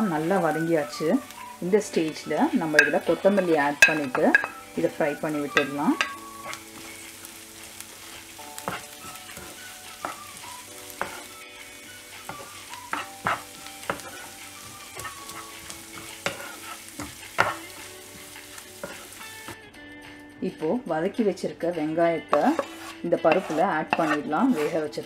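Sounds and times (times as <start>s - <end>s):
onions sizzling in a pan: 0.0s - 19.6s, 22.3s - 25.0s
spatula scraping a pan: 0.0s - 19.6s, 22.3s - 25.0s.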